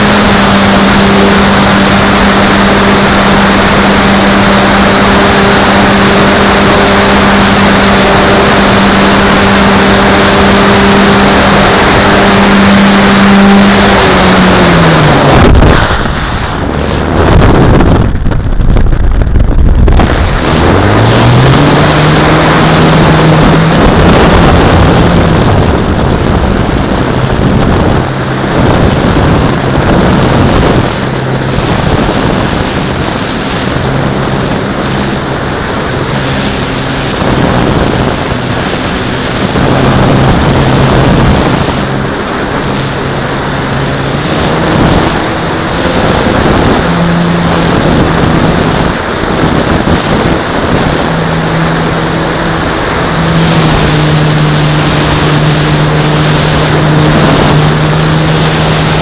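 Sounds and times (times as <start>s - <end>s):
model plane motor and propeller: 0.0s - 59.0s
wind rush over microphone: 0.0s - 59.0s.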